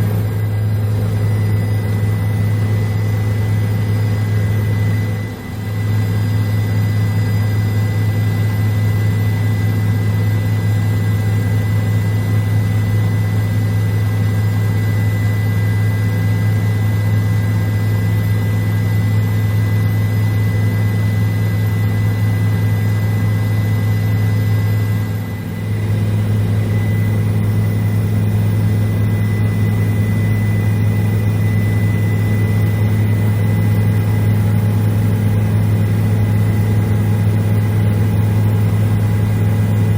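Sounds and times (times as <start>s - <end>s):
faint high whine: 0.0s - 39.9s
helicopter engine and rotor drone: 0.0s - 39.9s.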